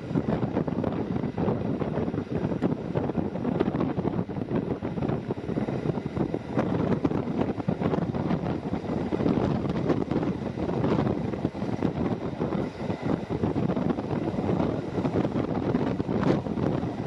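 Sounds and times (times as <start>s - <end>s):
moving train rumble: 0.0s - 17.0s
wind buffeting microphone: 0.0s - 17.0s.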